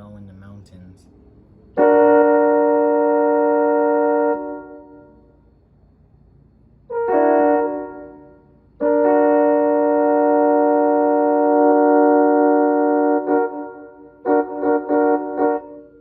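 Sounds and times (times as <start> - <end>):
electronic train horn chord: 1.7 - 5.5, 6.9 - 16.0.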